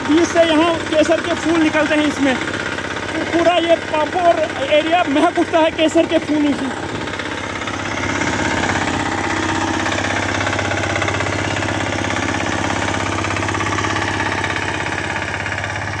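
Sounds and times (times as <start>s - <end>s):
tiller engine running: 0.0s - 16.0s
tines churning soil: 0.0s - 16.0s.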